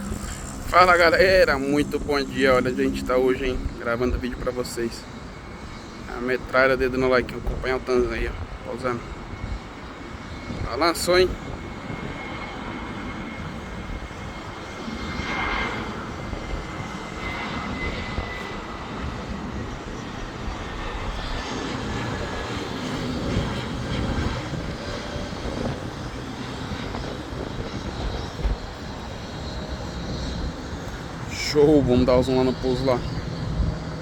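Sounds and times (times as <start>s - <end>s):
jet engines rumbling with whine: 0.0s - 34.0s.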